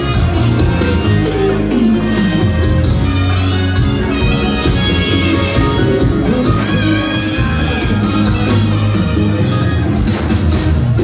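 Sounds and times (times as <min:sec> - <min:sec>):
live band music through speakers: 0:00.0 - 0:11.0.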